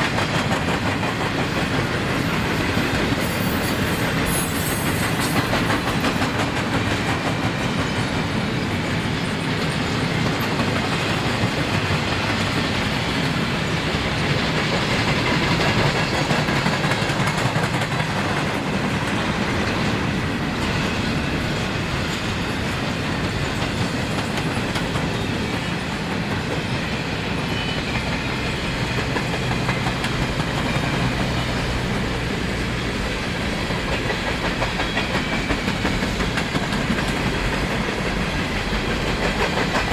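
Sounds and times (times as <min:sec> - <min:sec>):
clickety-clack over rail joints: 0:00.0 - 0:39.9
train wheels on rails: 0:00.0 - 0:39.9.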